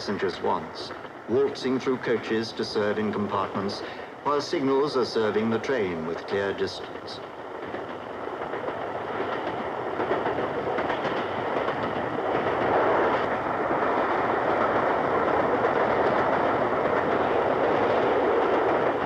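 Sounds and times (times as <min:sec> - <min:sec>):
train wheel and track noise: 0:00.0 - 0:19.0.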